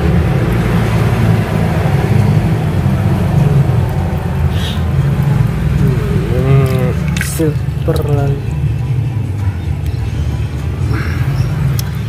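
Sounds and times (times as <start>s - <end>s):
loud low rumble: 0.0s - 11.8s.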